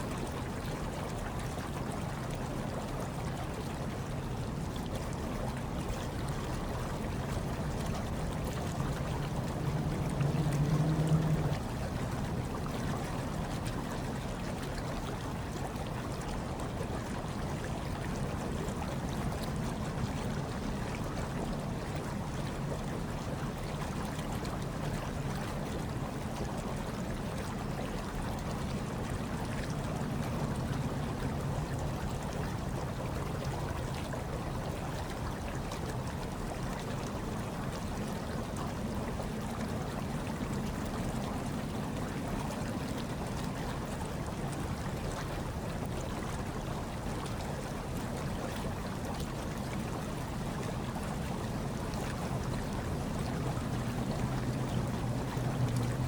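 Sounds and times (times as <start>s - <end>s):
hot tub water bubbling: 0.0s - 56.0s.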